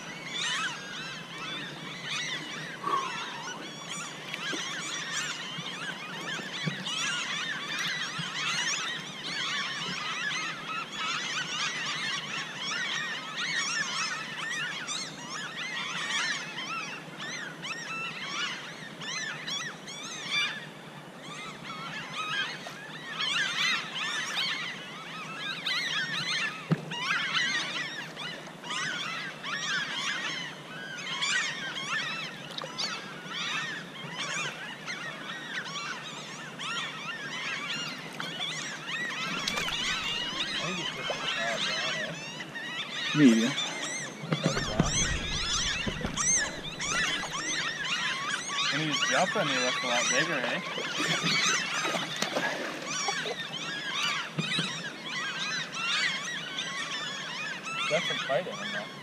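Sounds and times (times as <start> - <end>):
chorus of squeaky animal calls: 0.0 - 20.6, 21.2 - 59.0.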